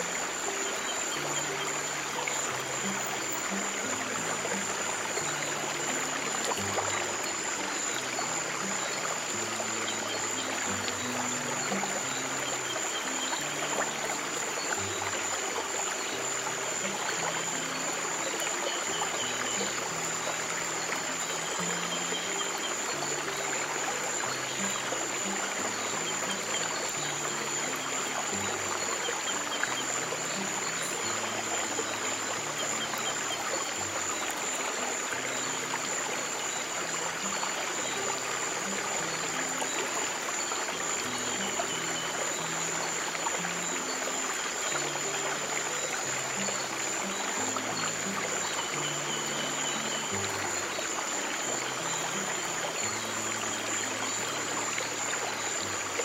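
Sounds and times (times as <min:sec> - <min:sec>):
trickling water: 0:00.0 - 0:56.0.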